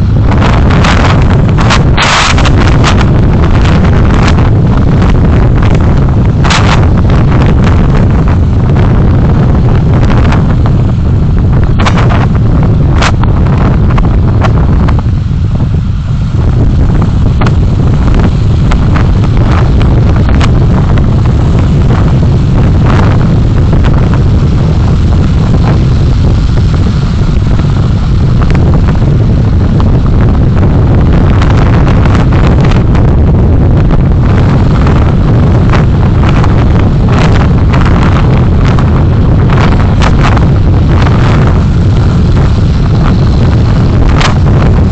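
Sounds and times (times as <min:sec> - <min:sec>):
vehicle road and engine rumble: 0:00.0 - 0:44.9
wind buffeting on microphone: 0:00.0 - 0:44.9.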